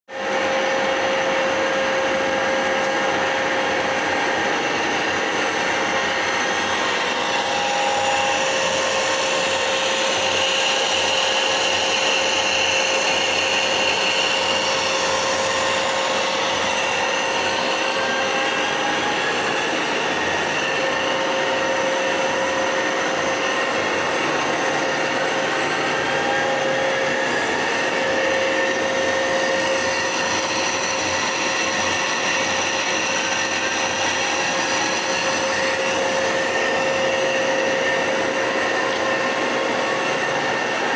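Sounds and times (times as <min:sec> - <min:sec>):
machine running with whine: 0:00.1 - 0:40.9.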